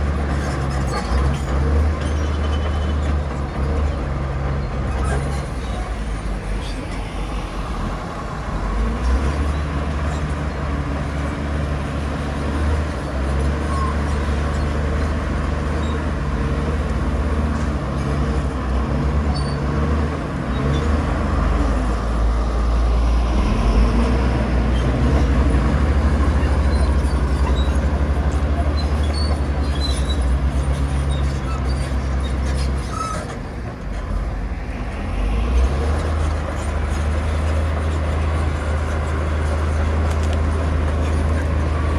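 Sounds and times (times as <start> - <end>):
bulldozer diesel engine under load: 0.0 - 41.9.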